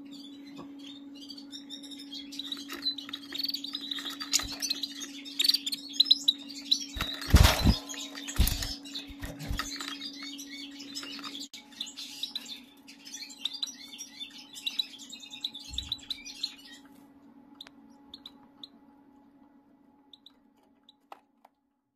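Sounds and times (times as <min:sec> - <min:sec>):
finches chirping: 0:00.0 - 0:19.0, 0:20.0 - 0:21.0.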